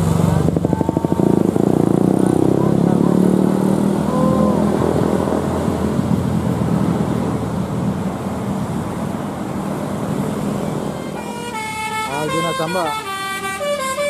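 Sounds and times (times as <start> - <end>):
vehicle engines running: 0.0 - 14.0.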